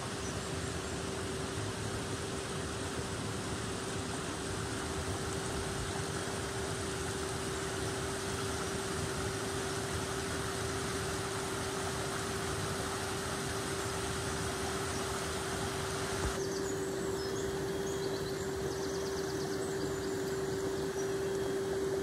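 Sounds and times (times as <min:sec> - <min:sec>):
rushing hiss: 0:00.0 - 0:22.0
turbine whine: 0:00.0 - 0:22.0.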